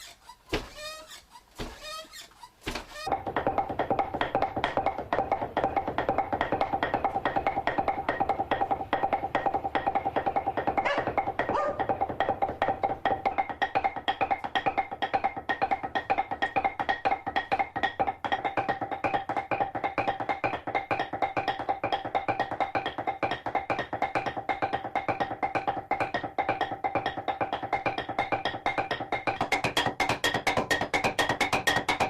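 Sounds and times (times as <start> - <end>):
wooden clubs beating cloth: 0.0 - 32.0.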